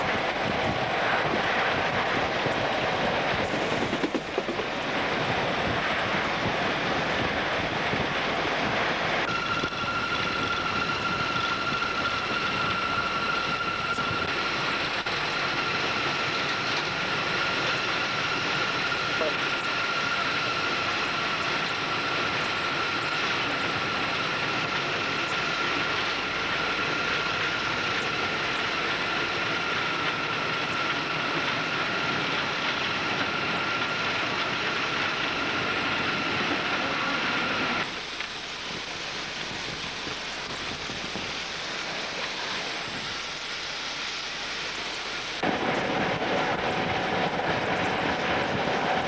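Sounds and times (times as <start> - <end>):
high even turbine whine: 0.0 - 49.0
steam train running rush: 0.0 - 49.0.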